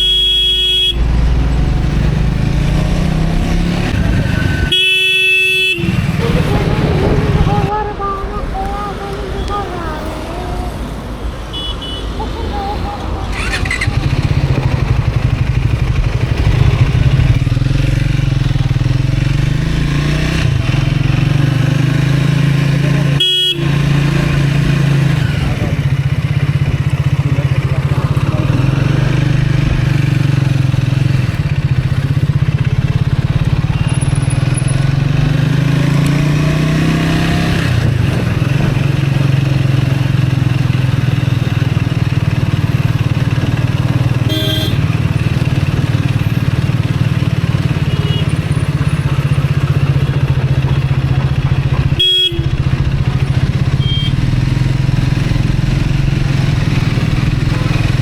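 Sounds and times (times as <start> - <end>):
motorcycle engine running: 0.0 - 10.4, 12.6 - 58.0.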